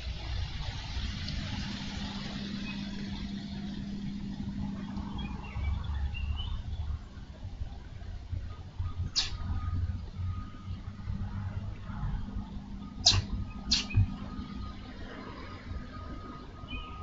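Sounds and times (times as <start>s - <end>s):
low wind rumble: 0.0s - 17.0s
steady low engine-like hum: 0.0s - 17.0s.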